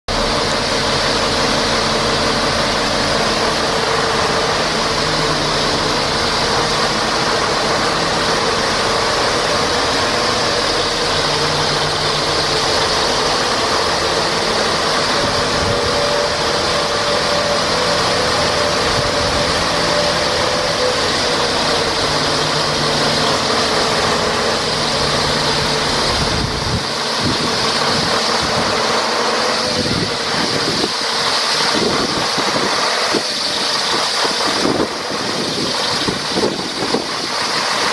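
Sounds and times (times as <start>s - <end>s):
diesel truck engine idling: 0.1s - 37.9s.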